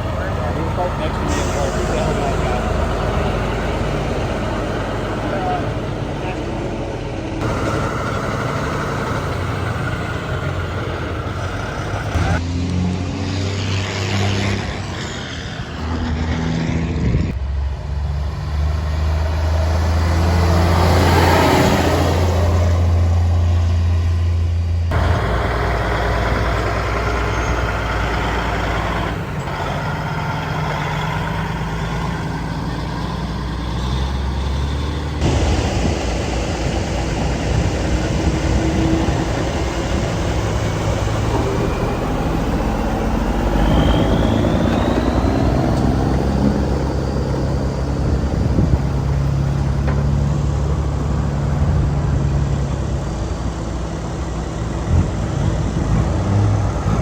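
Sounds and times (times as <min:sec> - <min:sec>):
truck engines driving by: 0:00.0 - 0:57.0.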